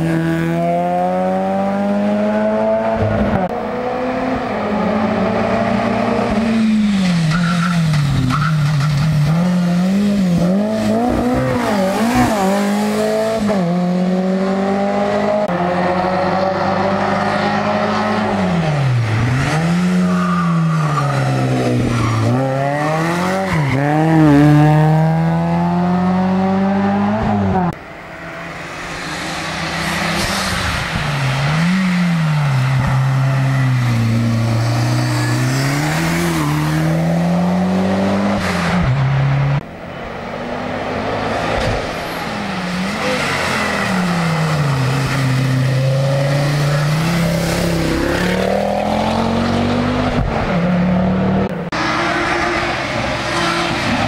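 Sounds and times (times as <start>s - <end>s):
racing car engines accelerating: 0.0s - 39.7s, 40.3s - 54.0s.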